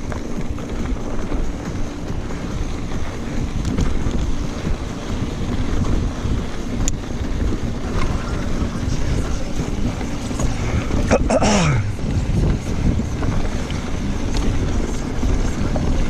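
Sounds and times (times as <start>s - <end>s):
mountain bike rumbling and rattling: 0.0s - 16.0s
wind buffeting microphone: 0.0s - 16.0s.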